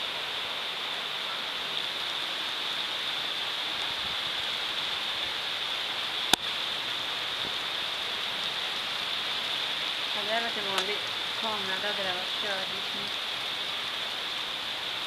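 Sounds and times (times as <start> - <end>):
rain falling steadily: 0.0 - 15.0.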